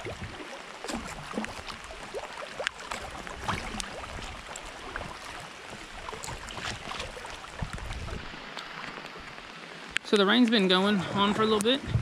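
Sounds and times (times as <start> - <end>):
moving water: 0.0 - 12.0
rain drips on water: 0.0 - 12.0.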